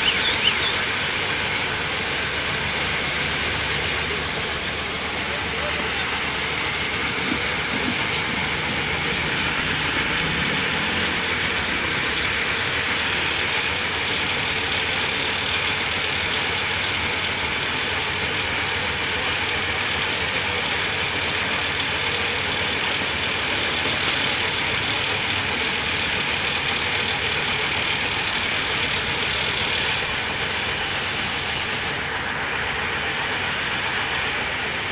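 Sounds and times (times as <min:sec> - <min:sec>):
baler machine running: 0:00.0 - 0:34.9.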